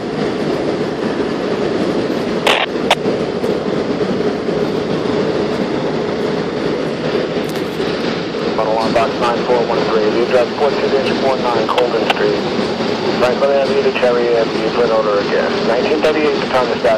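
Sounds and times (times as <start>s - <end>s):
diesel engine rumbling: 0.0s - 16.9s.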